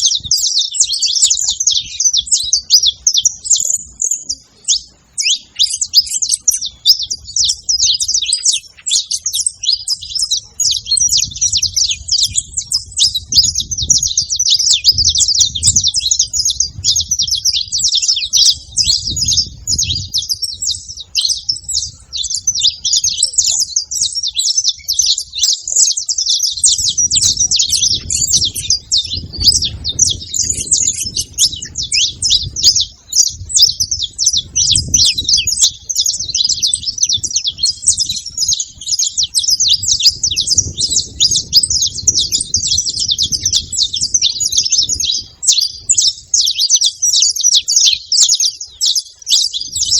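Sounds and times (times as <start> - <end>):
finch chirping and singing: 0.0 - 49.9.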